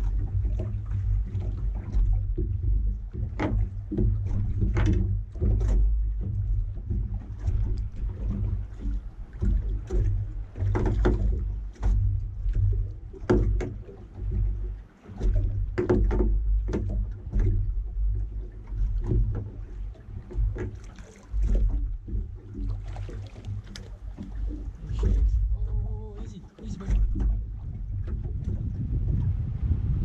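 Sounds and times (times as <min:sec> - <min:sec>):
wind and water rumbling: 0:00.0 - 0:30.0.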